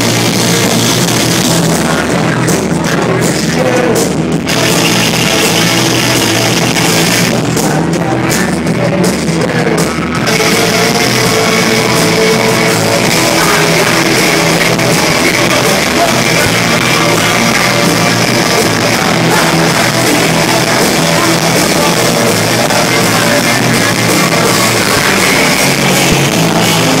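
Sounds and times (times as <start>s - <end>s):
live rock band: 0.0s - 27.0s.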